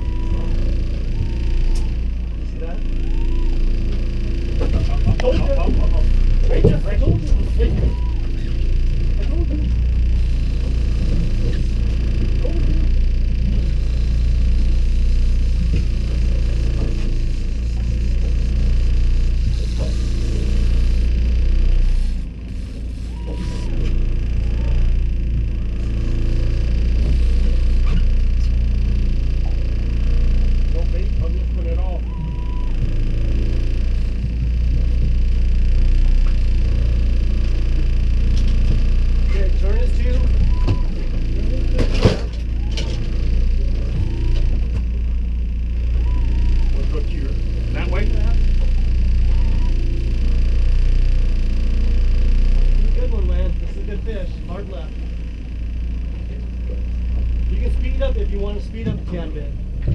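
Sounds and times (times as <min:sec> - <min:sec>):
outboard motor droning: 0:00.0 - 0:59.9.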